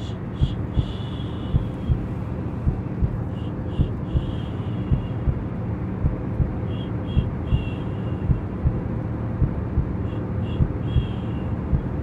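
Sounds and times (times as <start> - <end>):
heartbeat thumps: 0.0 - 12.0
steady whooshing hum: 0.0 - 12.0.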